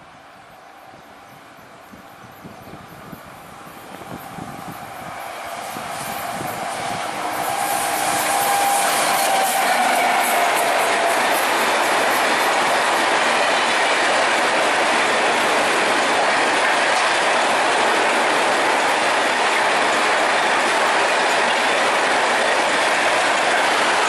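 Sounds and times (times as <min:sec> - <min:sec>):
train wheels rushing on rails: 0:00.0 - 0:24.0.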